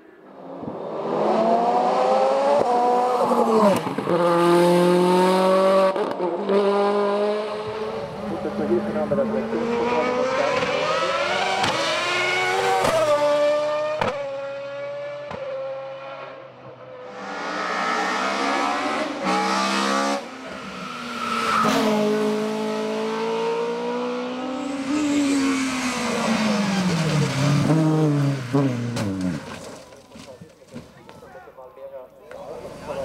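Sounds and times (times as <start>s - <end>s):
race car engines revving: 0.2s - 30.0s.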